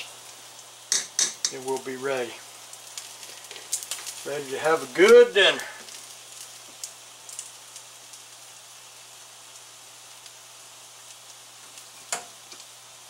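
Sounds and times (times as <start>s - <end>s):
steaks sizzling in a skillet: 0.0s - 13.0s.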